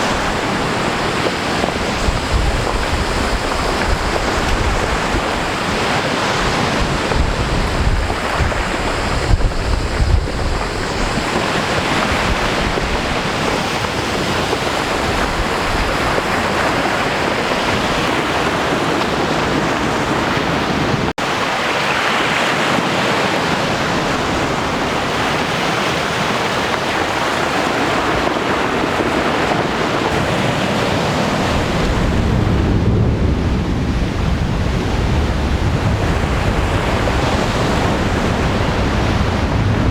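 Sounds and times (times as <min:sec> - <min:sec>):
sea surf washing: 0:00.0 - 0:39.9
wind on microphone: 0:00.0 - 0:39.9.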